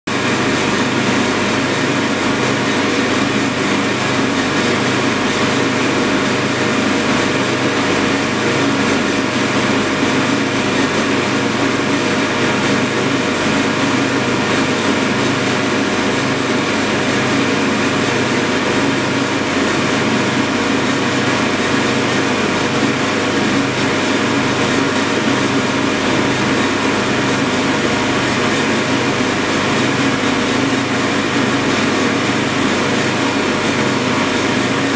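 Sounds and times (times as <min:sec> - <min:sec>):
cooling blower rushing air: 0:00.1 - 0:34.9.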